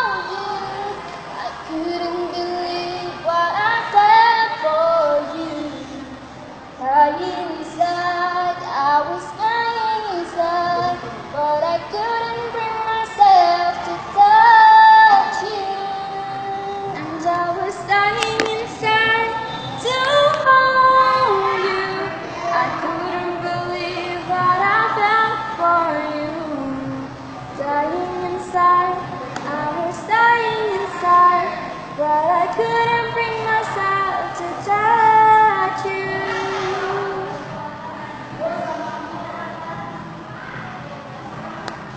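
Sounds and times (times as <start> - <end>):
girls singing a slow ballad: 0.0 - 40.4.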